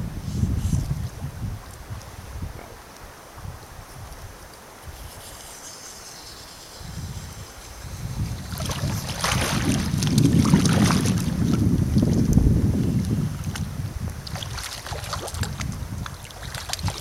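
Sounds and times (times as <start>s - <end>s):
wind buffeting microphone: 0.0s - 5.1s, 6.7s - 17.0s.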